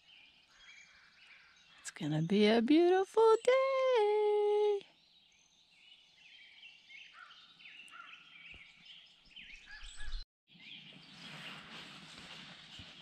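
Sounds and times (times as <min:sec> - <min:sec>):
songbirds chirping: 0:00.0 - 0:11.3.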